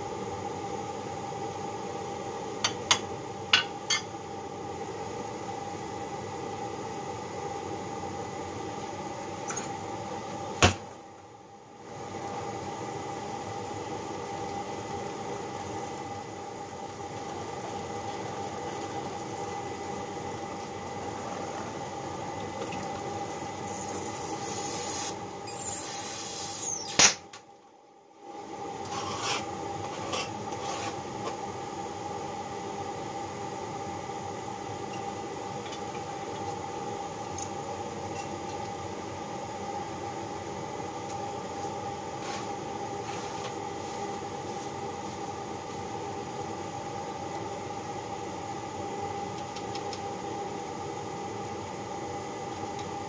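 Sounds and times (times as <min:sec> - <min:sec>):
steady workshop hum: 0:00.0 - 0:53.0.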